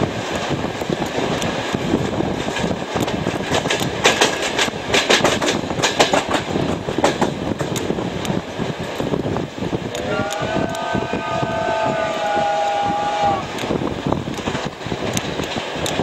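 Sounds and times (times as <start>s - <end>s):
wheels clicking over rail joints: 0.0s - 10.9s, 13.4s - 16.0s
train carriage rumble: 0.0s - 16.0s.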